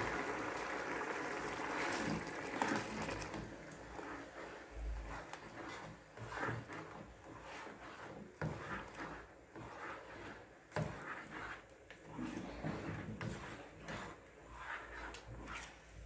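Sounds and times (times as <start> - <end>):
spatula stirring curry in a pot: 0.0 - 16.0.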